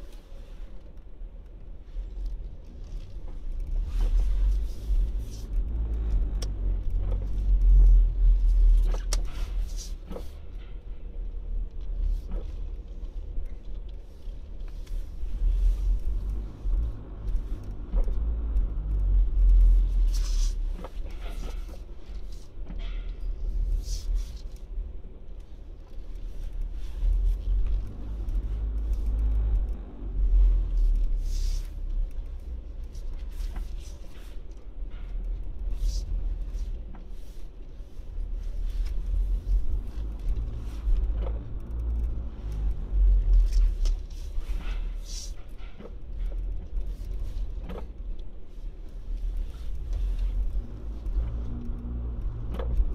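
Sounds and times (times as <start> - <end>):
car engine and tyres rumbling: 0.0 - 52.9.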